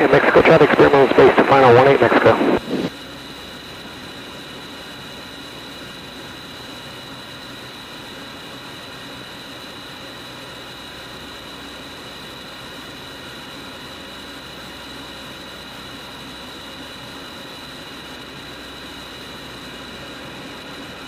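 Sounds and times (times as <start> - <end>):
aircraft cockpit engine hiss: 0.0 - 21.0.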